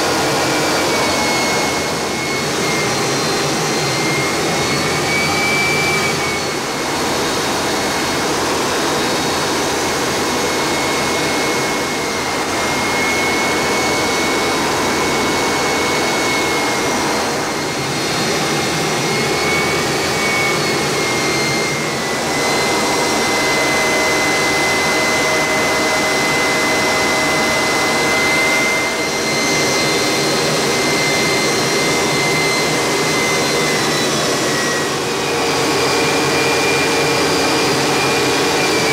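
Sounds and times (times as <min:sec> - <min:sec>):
jet engine rush with high whine: 0:00.0 - 0:38.9.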